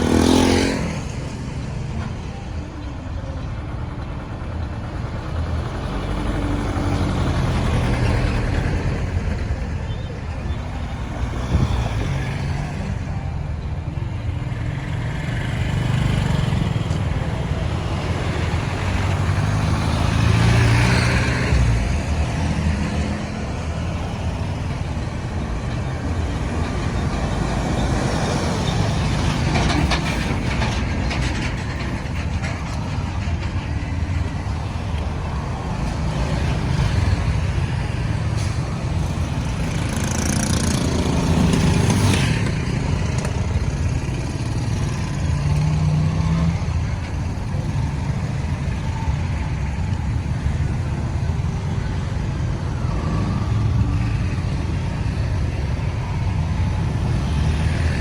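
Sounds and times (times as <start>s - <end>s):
road noise: 0.0s - 58.0s
truck car and motorbike engines: 0.0s - 58.0s.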